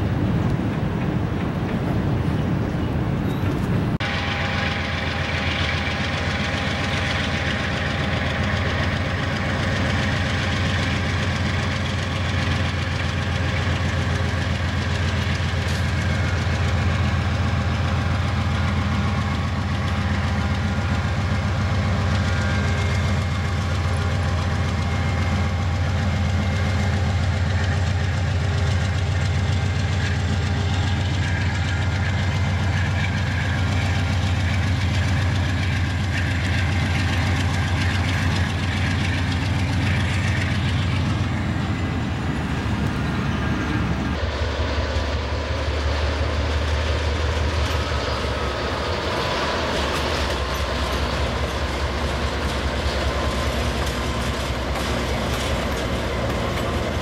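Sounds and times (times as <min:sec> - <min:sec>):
diesel locomotive engine running: 0:00.0 - 0:57.0.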